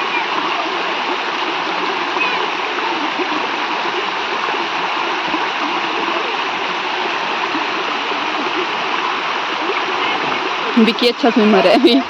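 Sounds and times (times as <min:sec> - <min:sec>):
faint voices: 0:00.0 - 0:12.0
mountain stream flowing: 0:00.0 - 0:12.0.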